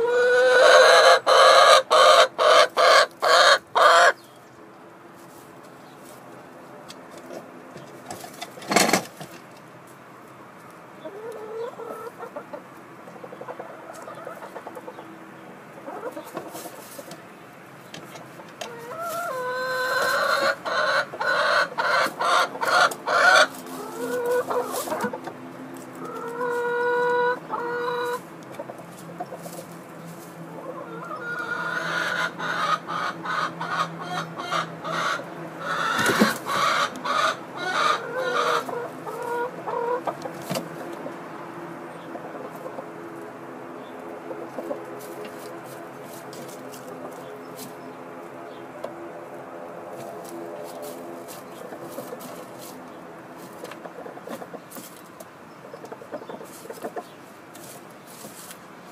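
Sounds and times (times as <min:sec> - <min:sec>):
hens clucking: 0:00.0 - 0:04.5, 0:05.1 - 0:58.9.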